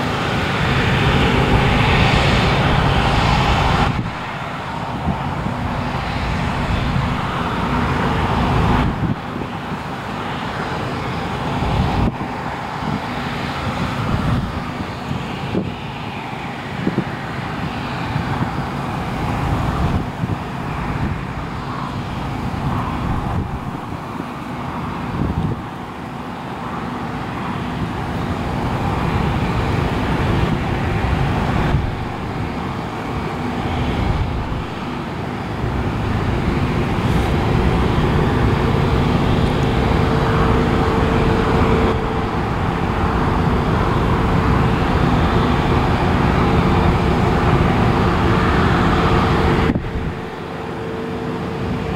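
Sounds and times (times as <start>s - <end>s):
combine harvester engine hum: 0.0s - 51.9s
faint machine whine: 0.0s - 51.9s.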